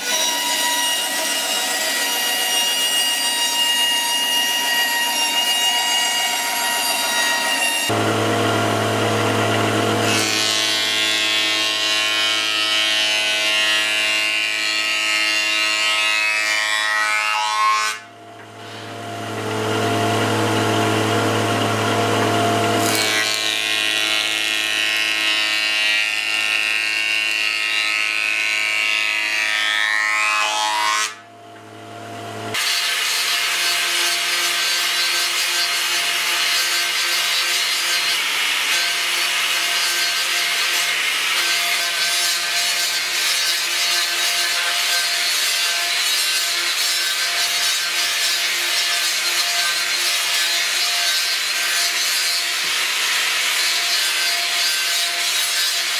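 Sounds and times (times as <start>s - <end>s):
planer cutting boards: 0.0s - 55.9s.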